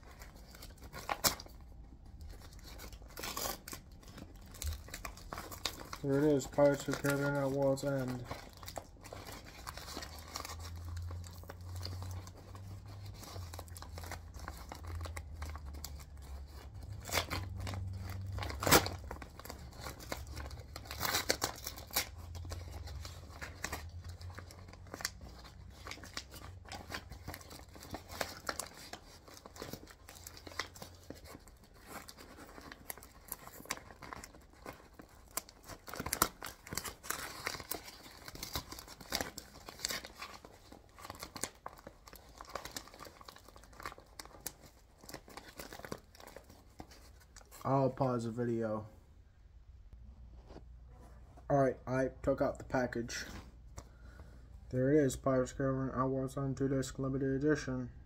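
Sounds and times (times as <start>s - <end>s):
paper ripping and rustling: 0.0s - 1.6s, 2.2s - 48.1s.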